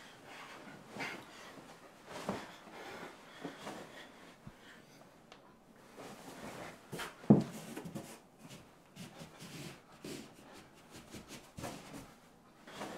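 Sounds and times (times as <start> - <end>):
rustling of bedding: 0.0 - 4.9, 5.8 - 12.9.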